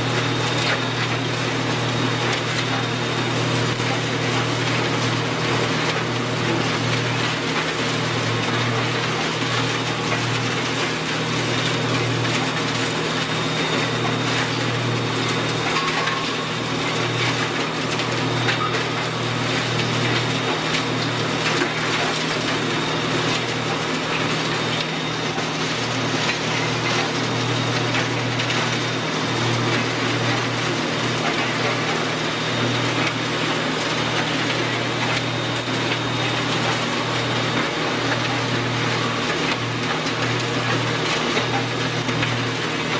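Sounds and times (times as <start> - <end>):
wood shredder engine humming: 0.0 - 42.9.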